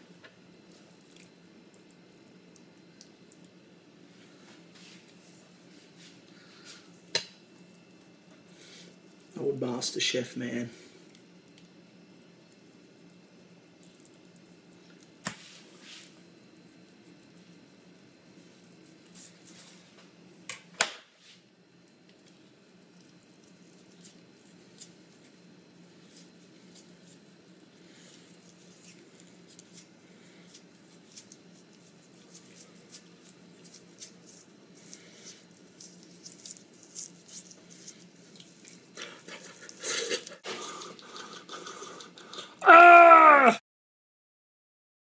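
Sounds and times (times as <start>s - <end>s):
faint steady hum: 0.0s - 43.4s.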